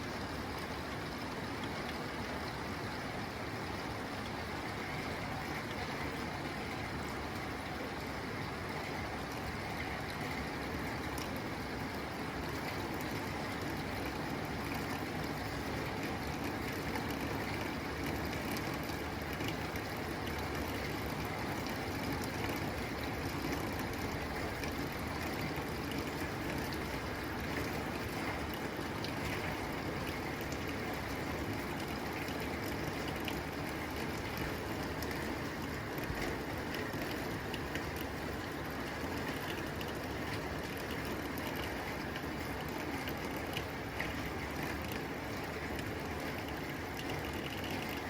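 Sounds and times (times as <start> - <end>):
rain on a tin roof: 0.0 - 48.0.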